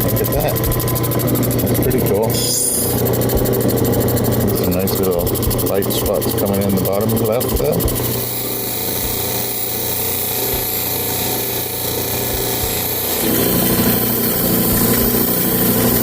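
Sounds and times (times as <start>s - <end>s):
motor humming: 0.0s - 16.0s
stone grinding on spinning wheel: 0.0s - 16.0s.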